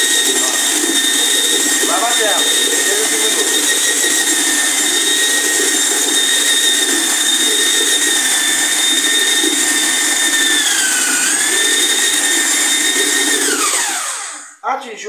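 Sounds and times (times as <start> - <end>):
electric drill mixing liquid: 0.0 - 14.6.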